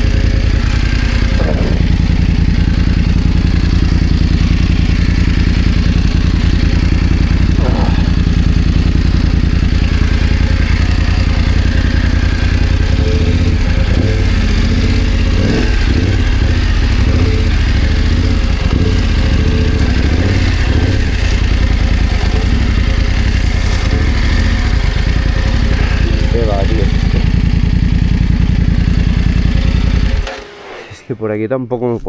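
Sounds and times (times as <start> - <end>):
motorcycle engine running: 0.0 - 31.1.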